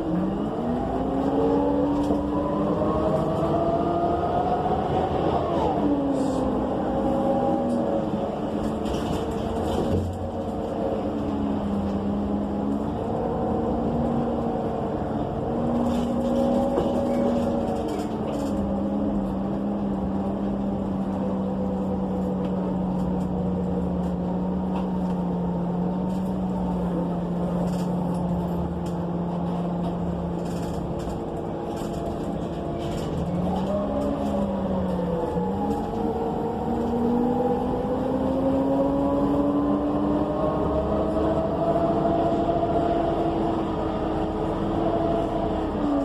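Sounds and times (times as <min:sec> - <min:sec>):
bus engine drone and whine: 0:00.0 - 0:46.0.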